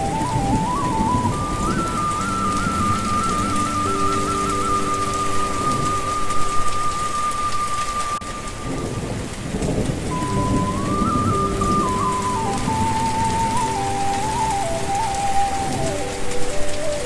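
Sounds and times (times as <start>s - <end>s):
heavy rain falling: 0.0s - 17.0s
thunder rumble: 0.0s - 17.0s.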